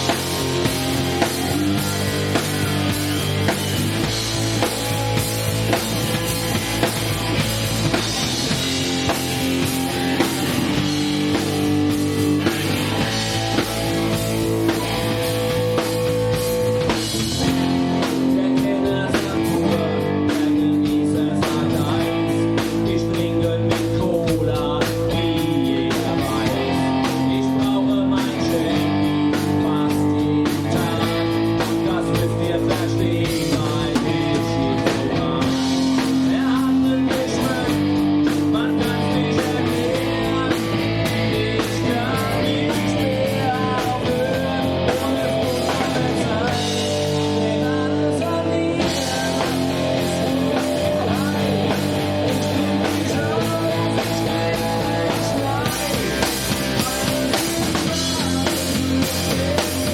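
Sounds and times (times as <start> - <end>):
drum kit beat: 0.0 - 59.9
electric guitar chords: 0.0 - 59.9.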